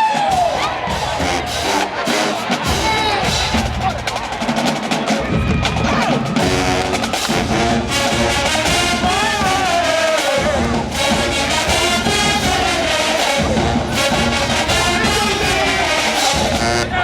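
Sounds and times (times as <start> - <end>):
marching band brass playing: 0.0 - 17.0.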